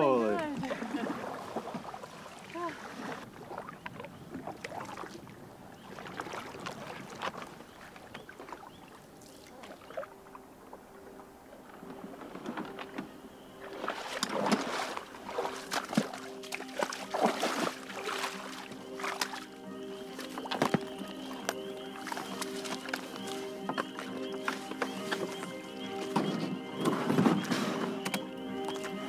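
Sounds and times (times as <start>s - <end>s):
water splashing and sloshing: 0.0s - 29.0s
paddle strokes dipping and dripping: 0.3s - 29.0s.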